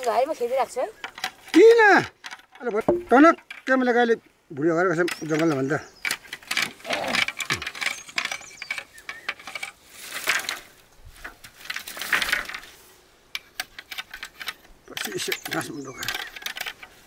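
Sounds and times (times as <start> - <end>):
leaves rustling: 0.0 - 17.0
bamboo canes clattering: 0.9 - 17.0.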